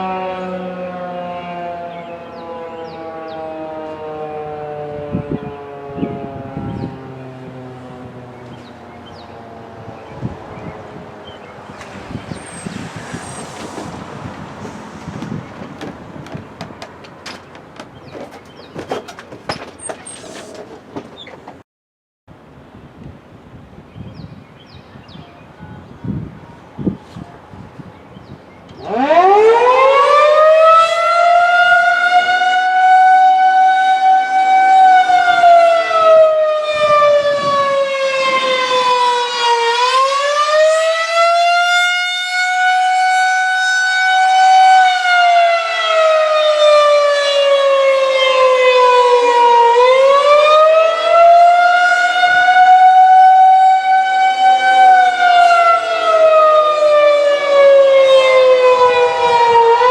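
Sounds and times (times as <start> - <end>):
rotating warning siren wailing: 0.0 - 21.4, 28.6 - 59.9.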